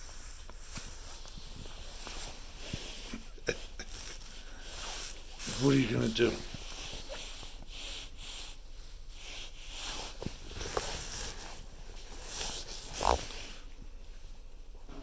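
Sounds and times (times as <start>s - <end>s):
puppies scuffling and snuffling: 0.0s - 15.0s.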